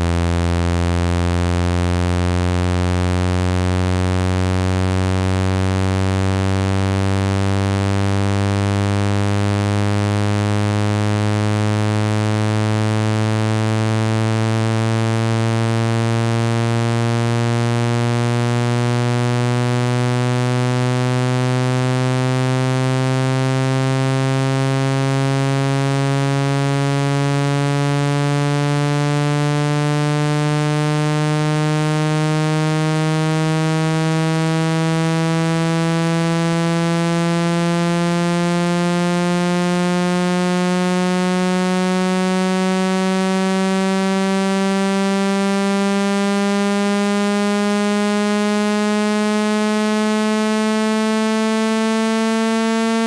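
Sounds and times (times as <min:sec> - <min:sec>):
buzzy electronic tone rising in pitch: 0:00.0 - 0:53.0.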